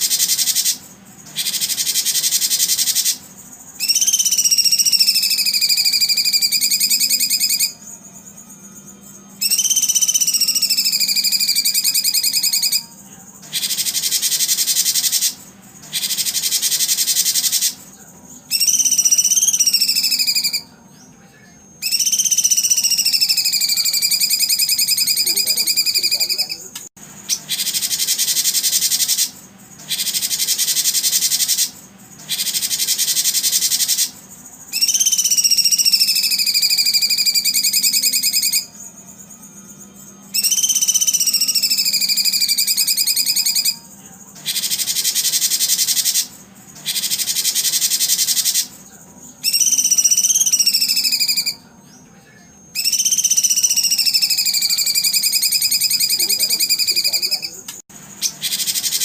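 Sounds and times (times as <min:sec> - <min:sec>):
buzzy bird trills: 0:00.0 - 0:59.0.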